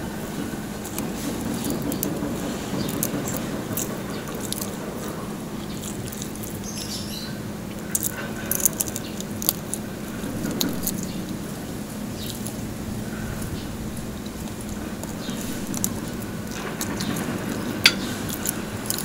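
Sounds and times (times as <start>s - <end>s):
crunching and chewing: 0.0s - 19.0s.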